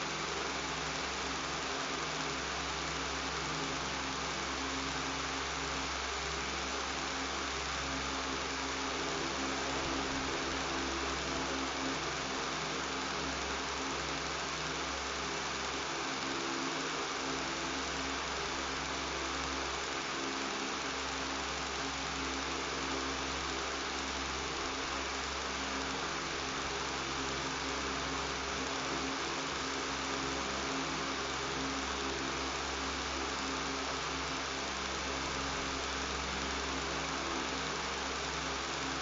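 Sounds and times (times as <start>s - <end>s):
electric fan running: 0.0s - 39.0s.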